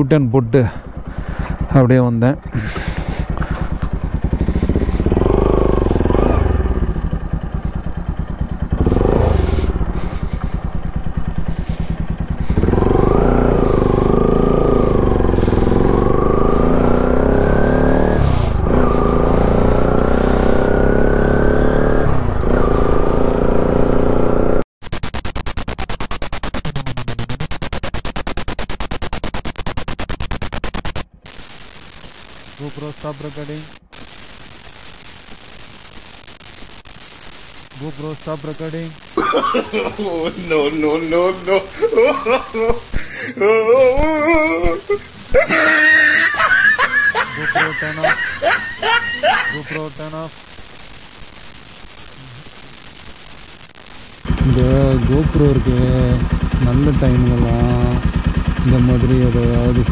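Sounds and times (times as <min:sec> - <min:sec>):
steady rough noise: 0:00.6 - 0:20.0, 0:24.8 - 0:59.9
motorcycle engine accelerating: 0:00.6 - 0:43.1, 0:43.8 - 0:52.6, 0:54.2 - 0:59.9.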